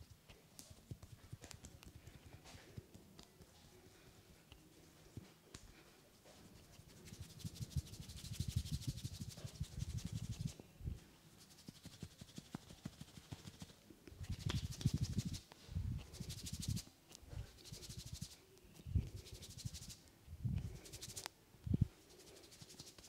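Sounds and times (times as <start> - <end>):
hands rubbing skin: 0.6 - 10.6, 11.3 - 18.4, 19.0 - 20.0, 20.6 - 23.0.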